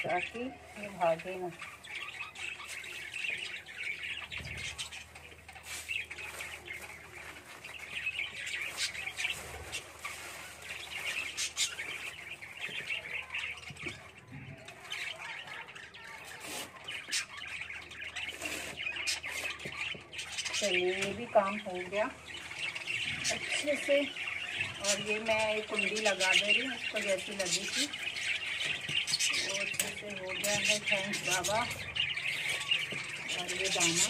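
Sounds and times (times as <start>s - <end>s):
lovebirds chirping and chattering: 0.0s - 34.0s.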